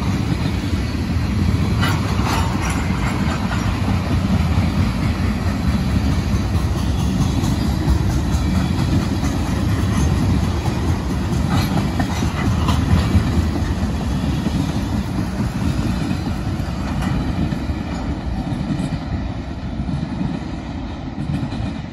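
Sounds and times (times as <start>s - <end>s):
clickety-clack of wheels: 0.0s - 21.9s
train wheels rumbling on rails: 0.0s - 21.9s.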